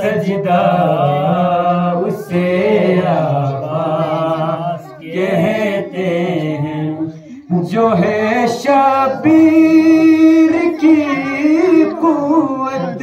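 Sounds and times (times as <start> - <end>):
man singing into microphone: 0.0 - 13.0.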